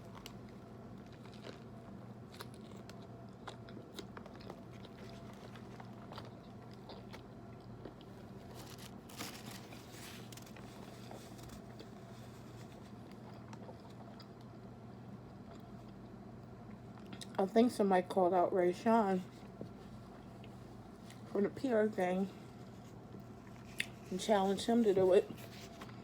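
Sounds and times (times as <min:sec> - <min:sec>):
chewing and crunching sandwich: 0:00.0 - 0:17.4, 0:19.4 - 0:21.3, 0:22.4 - 0:24.3, 0:25.2 - 0:26.0.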